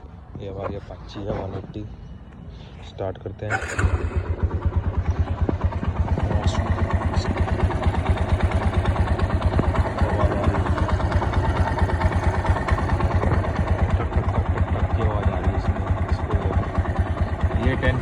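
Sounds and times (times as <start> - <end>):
motorcycle engine idling: 3.4 - 18.0.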